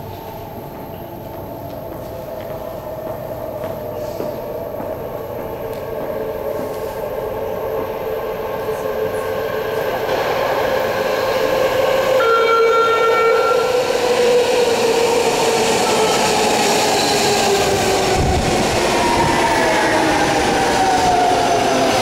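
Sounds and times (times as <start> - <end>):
train rumble and whine: 0.0 - 22.0.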